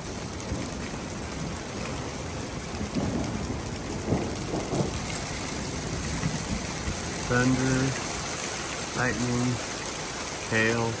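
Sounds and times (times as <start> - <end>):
thunder rumbling: 0.0 - 10.7
hail falling: 0.0 - 11.0
steady rain: 0.0 - 11.0.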